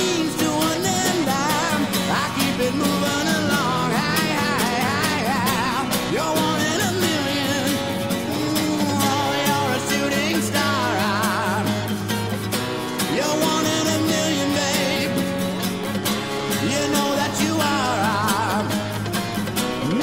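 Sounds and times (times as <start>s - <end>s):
rock song with guitar: 0.0s - 20.0s.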